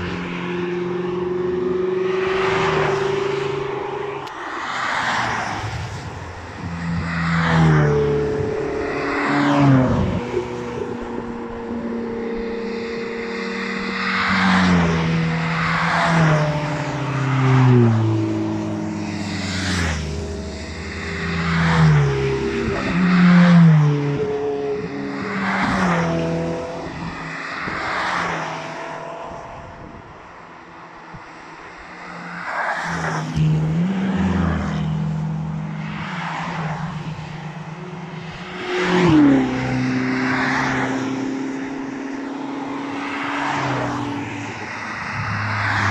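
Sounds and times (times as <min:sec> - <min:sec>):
sports cars driving past: 0:00.0 - 0:45.9.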